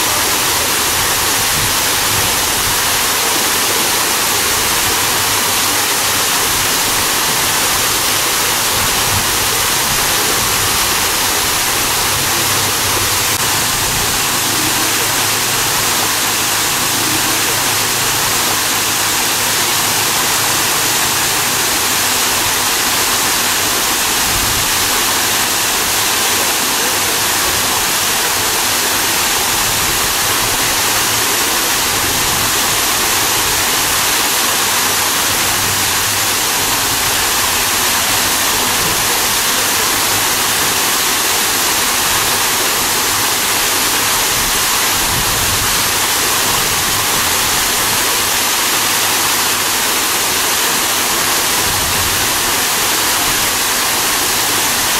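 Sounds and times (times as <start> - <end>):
waterfall rushing over rocks: 0.0 - 54.9.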